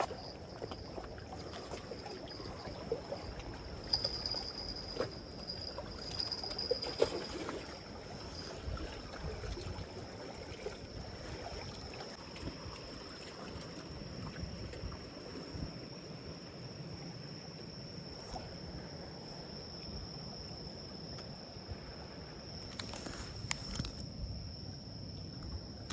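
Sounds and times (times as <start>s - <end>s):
water sloshing and trickling: 0.0s - 25.9s.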